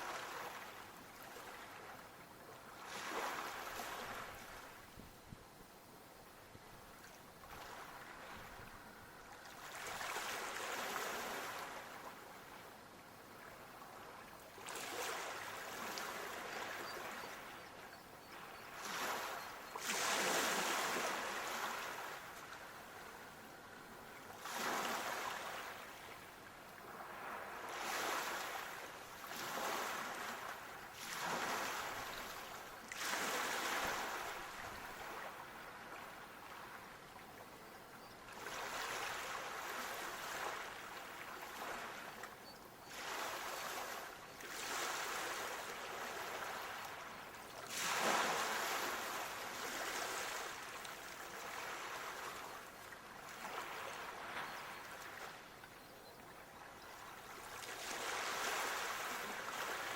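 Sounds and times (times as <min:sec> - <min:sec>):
waves washing on shore: 0:02.6 - 0:04.8, 0:07.0 - 0:12.7, 0:13.4 - 0:17.6, 0:18.3 - 0:37.0, 0:38.3 - 0:42.3, 0:42.9 - 0:55.5, 0:57.3 - 0:59.9.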